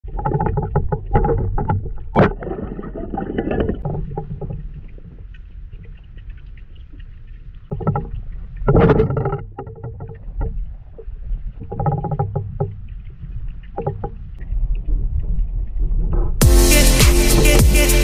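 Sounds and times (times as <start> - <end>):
crackling clicks: 0.0 - 14.9
bubbling: 0.0 - 15.5
low rumble of underwater water: 0.0 - 16.4.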